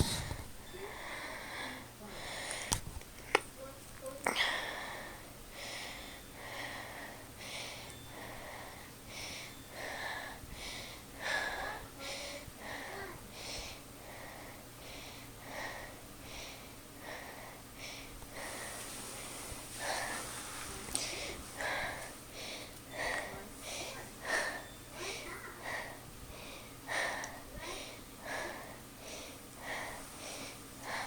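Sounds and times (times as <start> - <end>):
ceiling fan motor hum: 0.0 - 31.0
ceiling fan rhythmic whoosh: 0.0 - 31.0.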